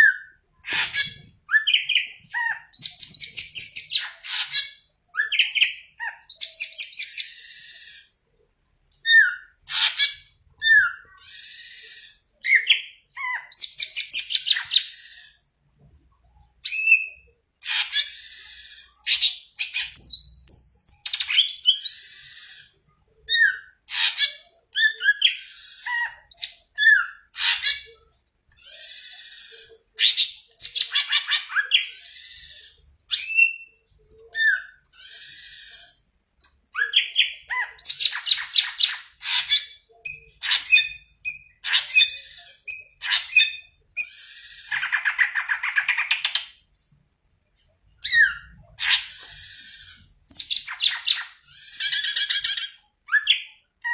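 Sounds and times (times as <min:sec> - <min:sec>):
bird singing varied song: 0:00.0 - 0:08.2, 0:08.9 - 0:15.5, 0:16.2 - 0:47.0, 0:47.6 - 0:53.9.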